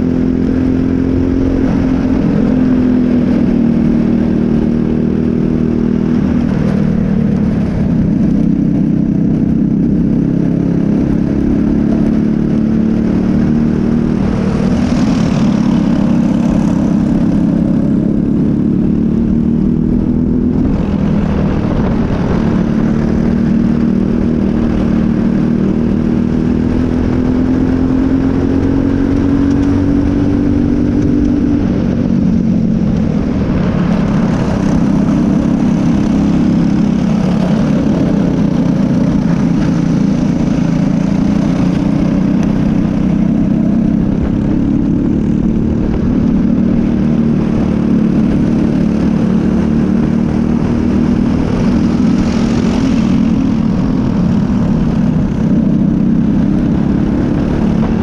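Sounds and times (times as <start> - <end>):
kart engine racing: 0.0 - 58.0
wind and road noise: 0.0 - 58.0.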